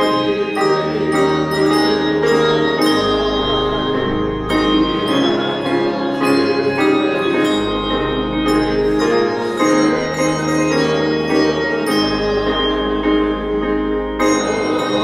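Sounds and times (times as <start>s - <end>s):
handbells ringing chords: 0.0s - 15.0s
sustained accompaniment with deep bass: 0.0s - 15.0s.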